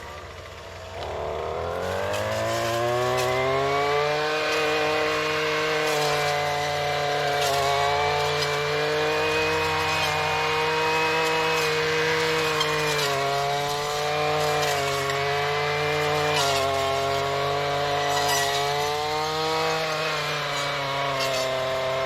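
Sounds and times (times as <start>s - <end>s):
weed whacker engine revving: 0.0s - 22.0s
blade ticks cutting vines: 1.9s - 22.0s.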